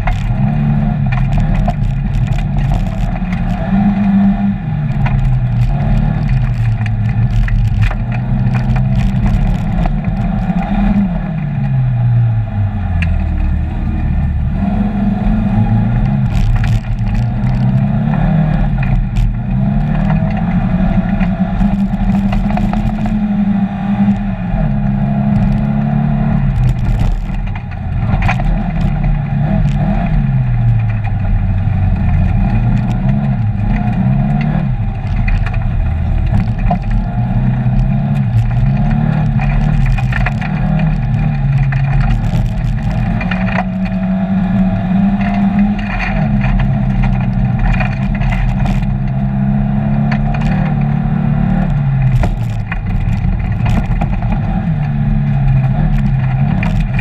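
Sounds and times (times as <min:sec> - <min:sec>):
gravel striking car: 0:00.0 - 0:12.0, 0:12.9 - 0:57.0
rally car engine revving: 0:00.0 - 0:57.0.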